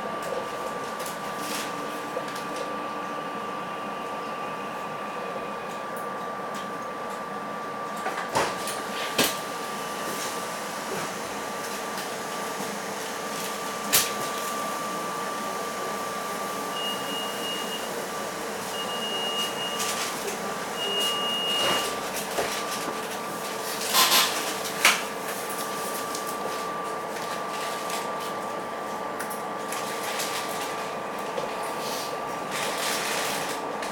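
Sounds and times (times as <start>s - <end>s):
railcar electrical hum: 0.0s - 33.9s.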